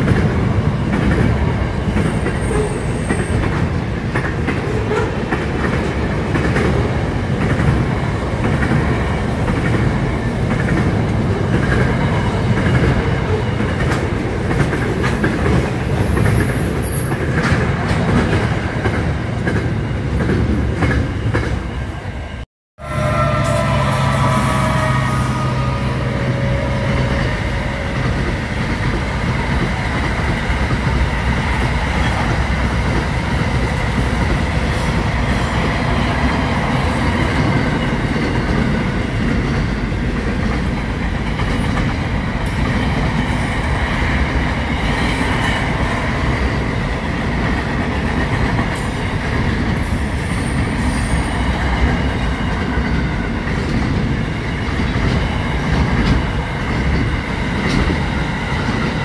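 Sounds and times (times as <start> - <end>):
train wheels clattering on rails: 0.0 - 21.9, 26.9 - 59.0.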